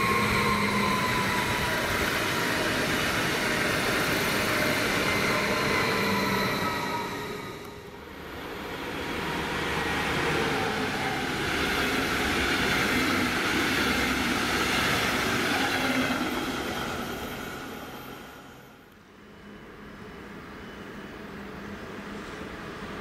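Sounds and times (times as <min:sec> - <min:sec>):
train passing on tracks: 0:00.0 - 0:23.0.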